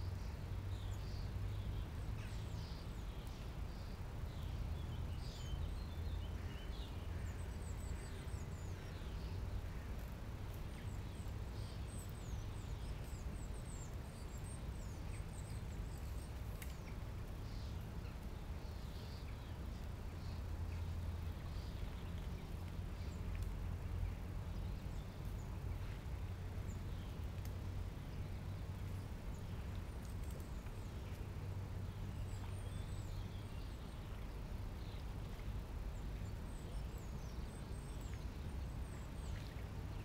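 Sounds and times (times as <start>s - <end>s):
small birds chirping: 0.0s - 40.0s
steady low rumble: 0.0s - 40.0s.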